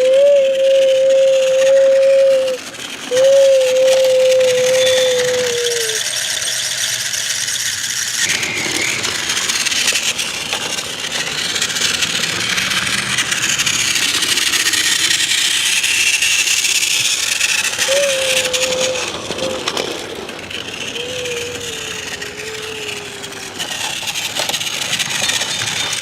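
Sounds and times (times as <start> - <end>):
toy train motor whirring: 0.0 - 26.0
toy train wheels rattling: 0.0 - 26.0.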